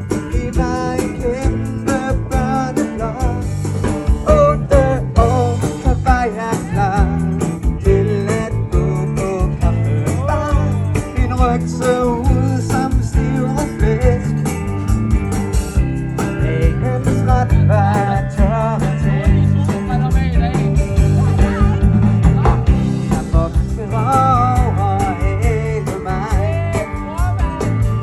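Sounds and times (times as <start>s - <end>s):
person singing: 0.0s - 14.6s, 16.2s - 20.6s, 21.2s - 28.0s
bass line: 0.0s - 28.0s
drum beat: 0.0s - 28.0s
electric guitar: 0.0s - 28.0s.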